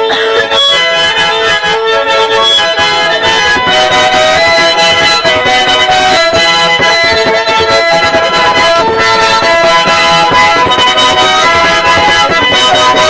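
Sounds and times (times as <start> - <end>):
folk ensemble instrumental: 0.0 - 13.0.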